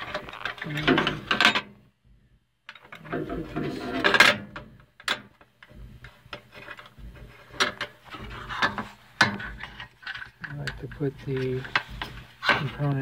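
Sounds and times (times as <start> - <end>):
small metal parts clicking and rubbing: 0.0 - 1.7, 2.7 - 13.0.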